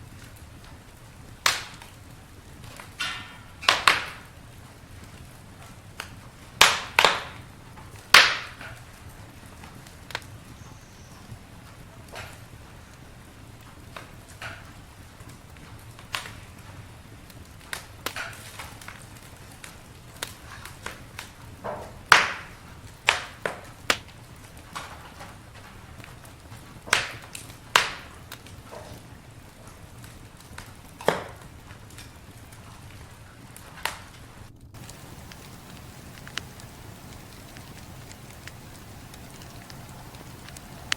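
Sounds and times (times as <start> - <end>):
campfire crackling and popping: 0.0 - 40.9
low steady hiss: 0.0 - 40.9.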